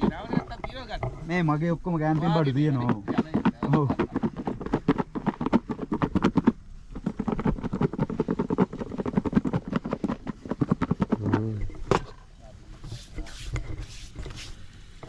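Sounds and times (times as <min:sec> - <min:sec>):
rapid clattering knocks: 0:00.0 - 0:12.1.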